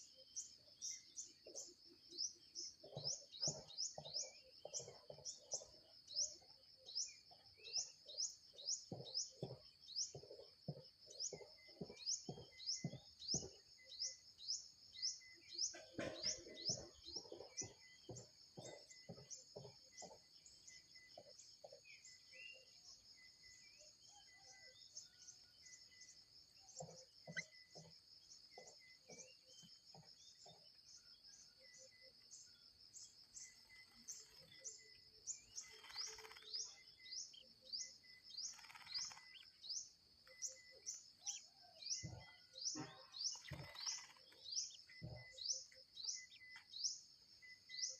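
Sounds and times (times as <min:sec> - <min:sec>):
birds chirping: 0:00.0 - 0:47.9
soft lower bird calls: 0:00.0 - 0:47.9.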